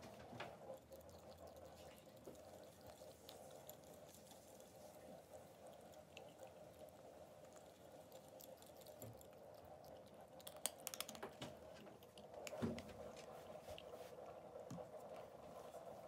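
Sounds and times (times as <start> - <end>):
cat chewing kibble: 0.0 - 16.0
faint steady hum: 0.0 - 16.0.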